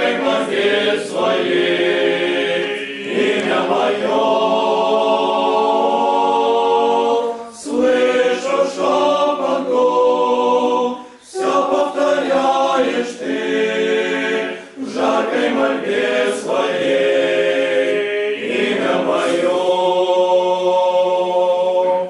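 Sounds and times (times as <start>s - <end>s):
male choir singing a cappella: 0.0s - 22.0s.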